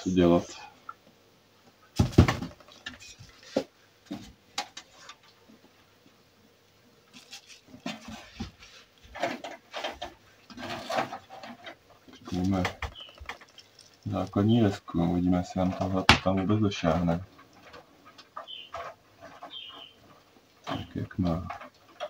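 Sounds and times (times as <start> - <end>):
rustling and clattering handling: 2.0 - 5.7, 7.1 - 22.0.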